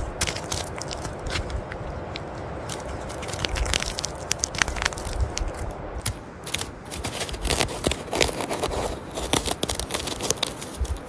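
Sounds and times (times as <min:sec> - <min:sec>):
scraping rustling noise: 0:00.0 - 0:11.0
sharp clicks and crackles: 0:00.2 - 0:11.0.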